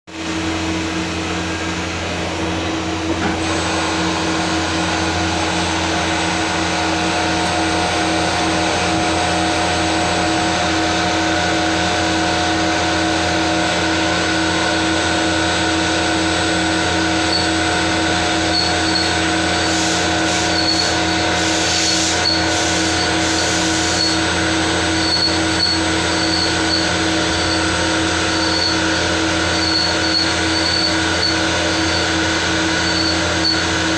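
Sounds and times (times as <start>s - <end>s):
machine hum and whine: 0.1s - 33.9s.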